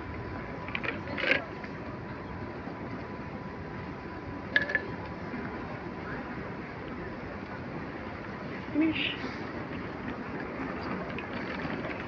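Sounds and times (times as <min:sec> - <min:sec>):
murmur and hum: 0:00.0 - 0:12.0.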